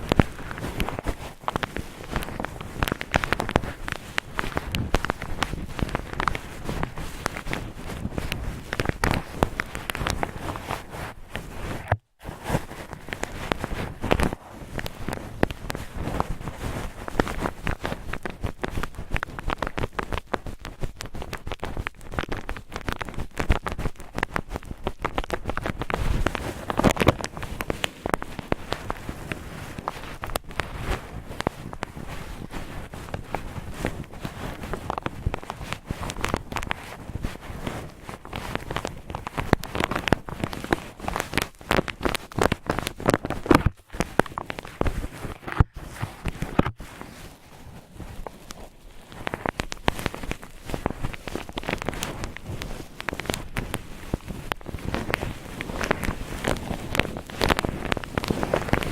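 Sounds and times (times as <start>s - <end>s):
cotton ball crackly scratching: 0.0s - 58.9s.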